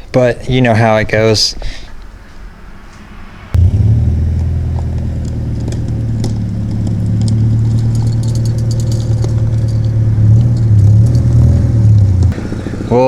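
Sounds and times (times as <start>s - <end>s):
car exhaust drone: 1.6s - 13.0s.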